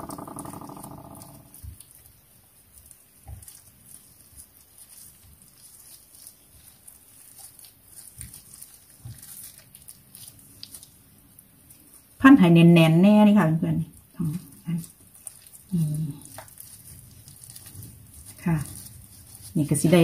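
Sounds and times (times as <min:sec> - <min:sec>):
hands rolling raw meat: 0:00.0 - 0:20.0.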